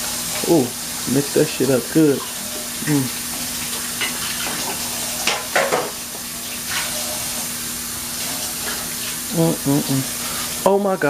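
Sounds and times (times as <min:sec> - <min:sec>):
sauce sizzling in a pan: 0:00.0 - 0:10.9.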